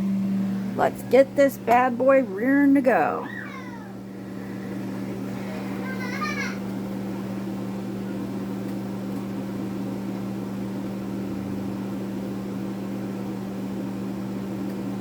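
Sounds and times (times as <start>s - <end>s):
kitchen appliance fan humming: 0.0s - 15.0s.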